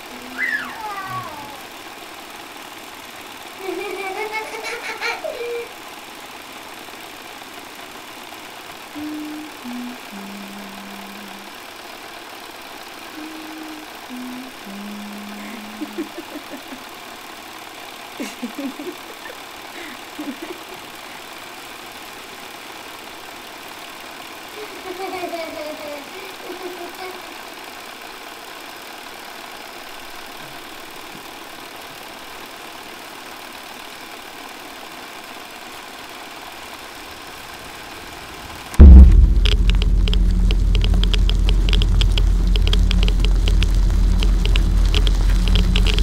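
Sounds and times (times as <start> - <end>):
steady hiss: 0.0 - 30.3, 33.6 - 46.0.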